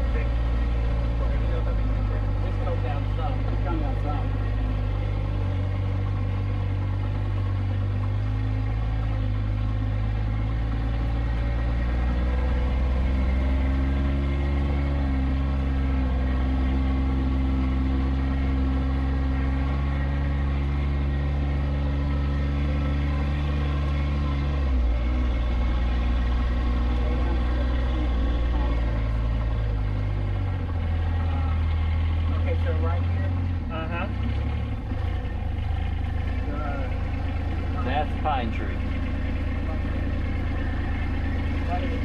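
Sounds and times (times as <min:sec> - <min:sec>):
vehicle engine driving: 0:00.0 - 0:42.0.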